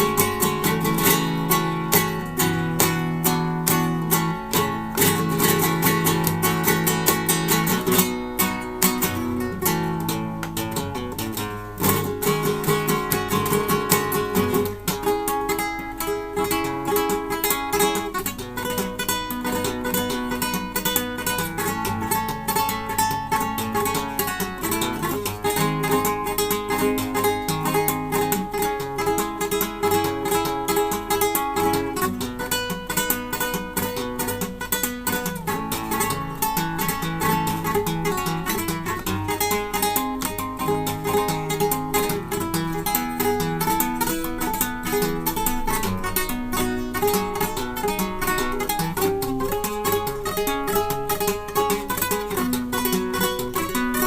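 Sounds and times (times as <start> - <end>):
classical guitar playing: 0.0 - 54.0.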